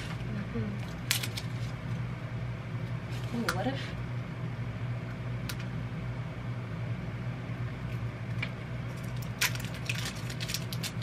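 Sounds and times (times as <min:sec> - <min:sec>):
low mechanical room hum: 0:00.0 - 0:11.0.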